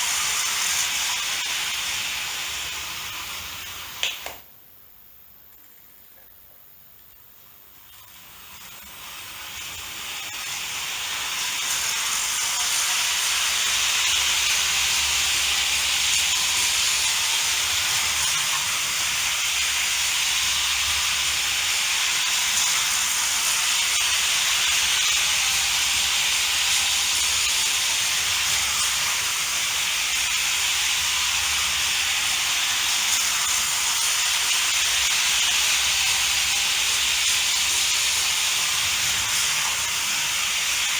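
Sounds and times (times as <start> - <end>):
model train whirring on metal track: 0.0 - 4.0, 7.8 - 40.9.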